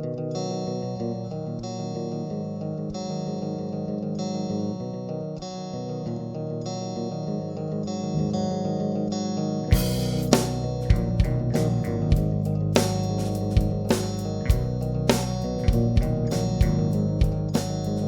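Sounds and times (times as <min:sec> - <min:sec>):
rock guitar chords: 0:00.0 - 0:18.0.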